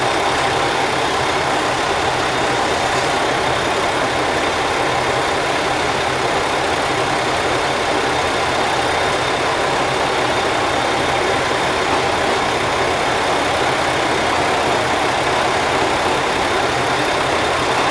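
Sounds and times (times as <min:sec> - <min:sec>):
diesel railcar engine idling: 0:00.0 - 0:17.9.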